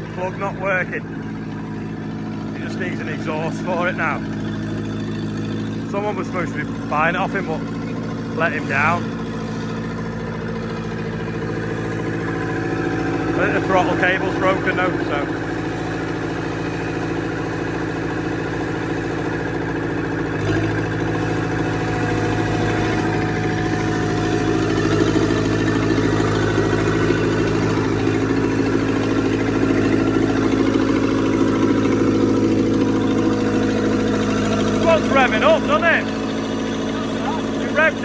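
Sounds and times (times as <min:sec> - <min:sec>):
engine running without exhaust: 0:00.0 - 0:38.0.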